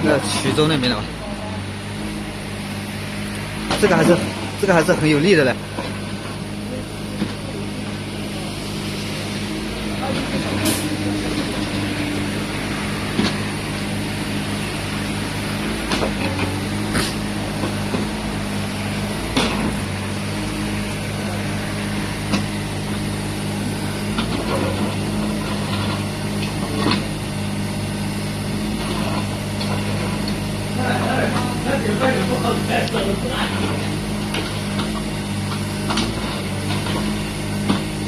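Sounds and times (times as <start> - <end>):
excavator engine running: 0.0 - 38.0.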